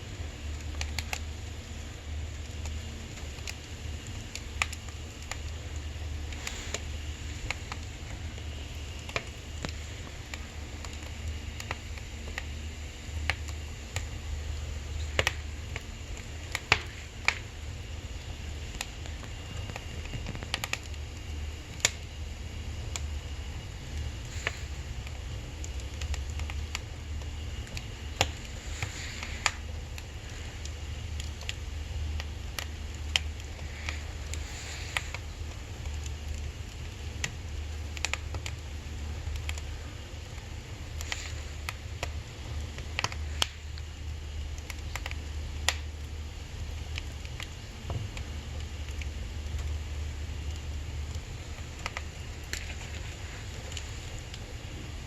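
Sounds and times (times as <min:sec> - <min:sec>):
firewood crackling and popping: 0:00.0 - 0:55.0
low steady rumble: 0:00.0 - 0:55.0.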